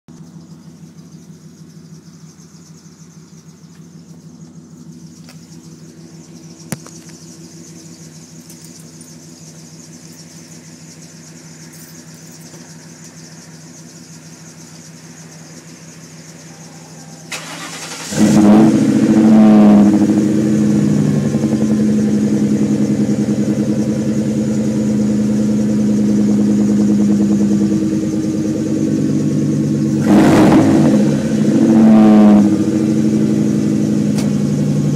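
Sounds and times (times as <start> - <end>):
car engine starting and idling: 0.1 - 34.9.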